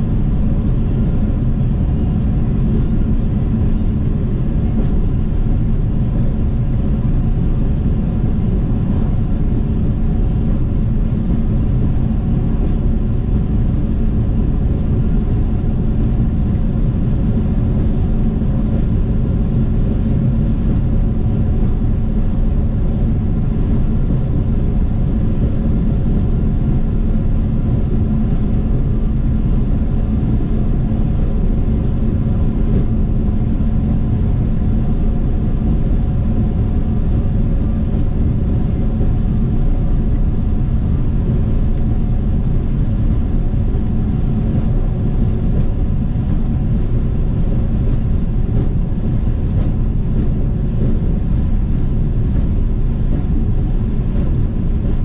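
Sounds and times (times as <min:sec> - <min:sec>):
car road noise from inside: 0:00.1 - 0:55.0.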